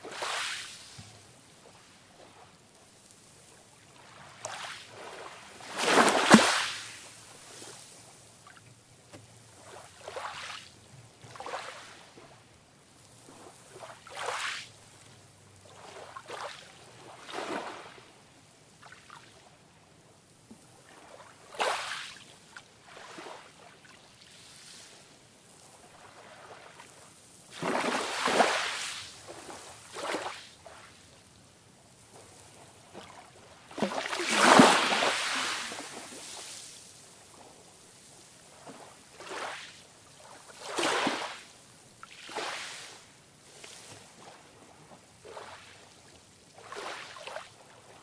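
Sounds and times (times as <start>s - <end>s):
faint sea wash: 0.0s - 19.9s, 22.4s - 48.0s
small waves lapping and splashing: 0.0s - 48.0s.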